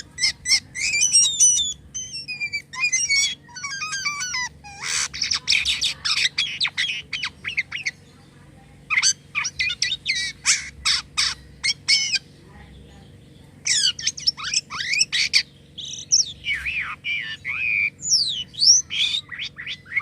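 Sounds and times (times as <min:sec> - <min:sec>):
starling singing: 0:00.0 - 0:20.0.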